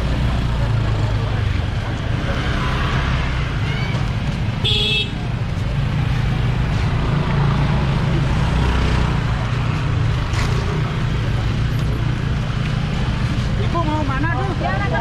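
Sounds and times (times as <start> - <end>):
motorbike engines running: 0.0 - 15.0
people's voices: 0.0 - 15.0.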